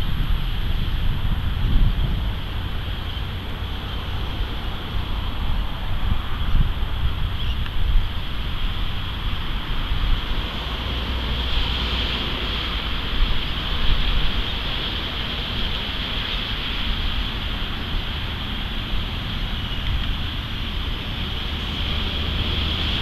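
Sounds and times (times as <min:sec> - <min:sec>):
ocean surf hiss: 0:00.0 - 0:23.0
wind buffeting microphone: 0:00.0 - 0:23.0.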